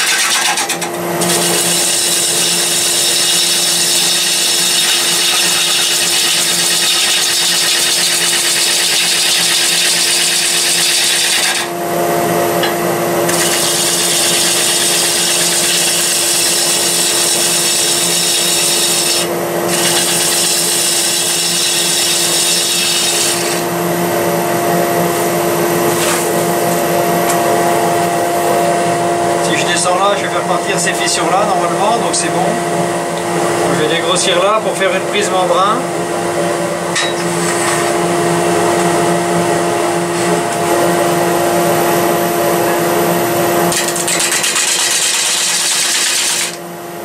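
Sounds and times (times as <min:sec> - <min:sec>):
lathe motor hum: 0:00.0 - 0:47.0.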